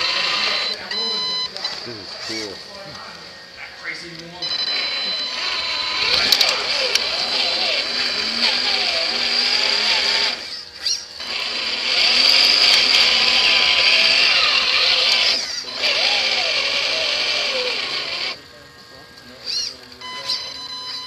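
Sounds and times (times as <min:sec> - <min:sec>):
electric motor and gearbox whining: 0:00.0 - 0:21.0.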